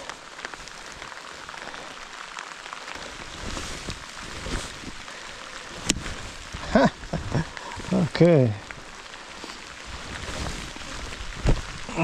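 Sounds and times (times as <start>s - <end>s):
rain pattering on tent fabric: 0.0s - 12.0s
rustle: 0.0s - 12.0s.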